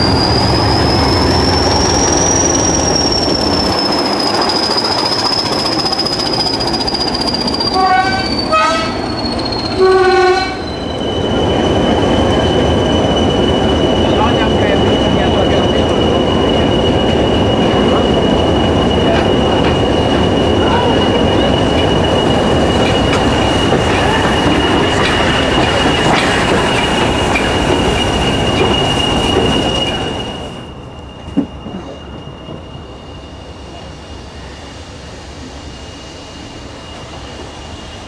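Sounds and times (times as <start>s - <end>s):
steam locomotive passing: 0.0s - 38.0s
train rolling rumble: 0.0s - 38.0s.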